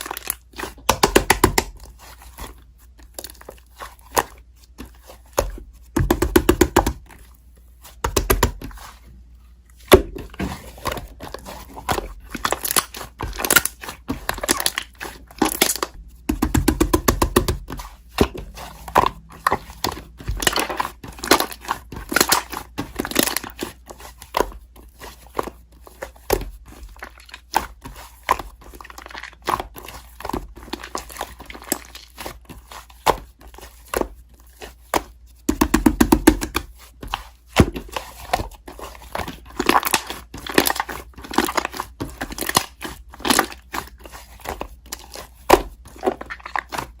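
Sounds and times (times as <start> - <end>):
slime squished by hands: 0.0 - 47.0.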